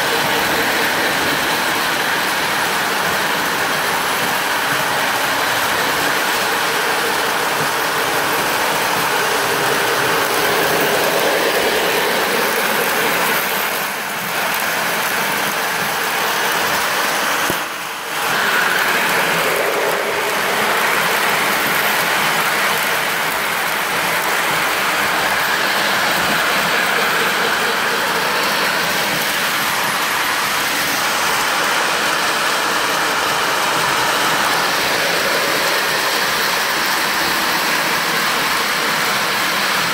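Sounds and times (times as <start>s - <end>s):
toy trains rattling on rails: 0.0s - 39.9s.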